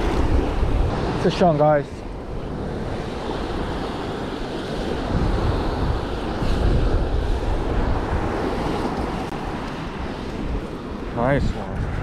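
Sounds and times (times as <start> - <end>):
small surf on sandy beach: 0.0 - 12.0
wind buffeting microphone: 0.0 - 12.0.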